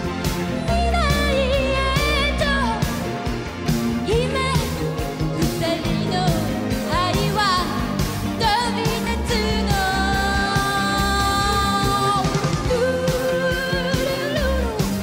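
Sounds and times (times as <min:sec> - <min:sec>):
drums and bass: 0:00.0 - 0:15.0
woman singing: 0:00.5 - 0:03.2, 0:04.0 - 0:15.0.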